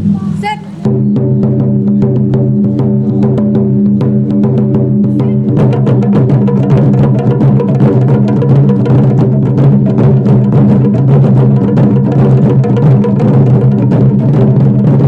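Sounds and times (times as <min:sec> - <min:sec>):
fast drum strikes: 0:00.0 - 0:15.0.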